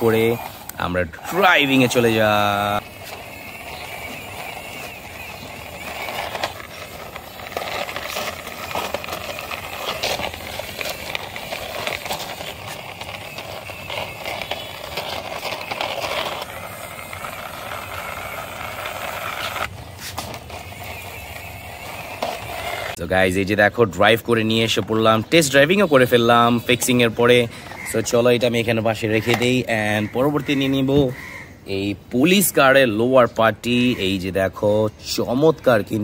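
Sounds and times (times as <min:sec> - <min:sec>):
toy car wheels rolling on concrete: 0:00.0 - 0:36.0.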